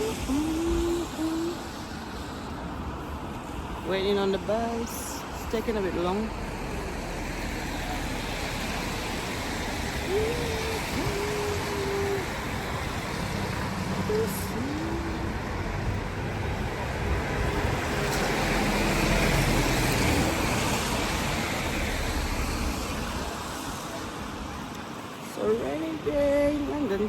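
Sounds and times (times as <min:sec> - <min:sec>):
rain: 0:00.0 - 0:27.0
tyres hissing on wet road: 0:00.0 - 0:27.0
vehicle engine rumble: 0:00.0 - 0:27.0.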